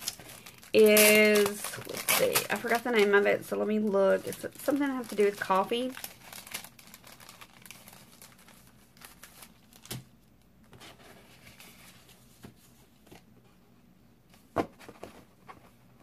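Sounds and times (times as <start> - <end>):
plastic sleeves and paper rustling: 0.0 - 13.6.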